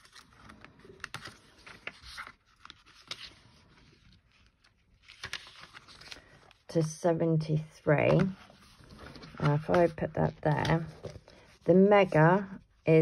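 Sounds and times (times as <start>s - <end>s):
paper pages rustling: 0.0s - 7.0s, 7.8s - 11.9s.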